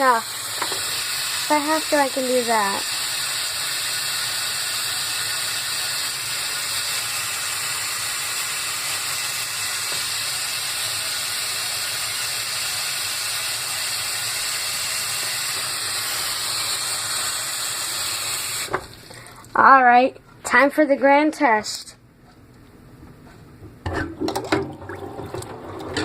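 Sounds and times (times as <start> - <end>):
tap water running into sink: 0.0 - 19.5, 24.1 - 26.0.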